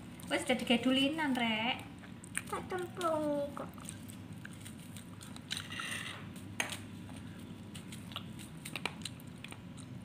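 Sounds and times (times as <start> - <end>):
raw fruit crunching: 1.0 - 10.0.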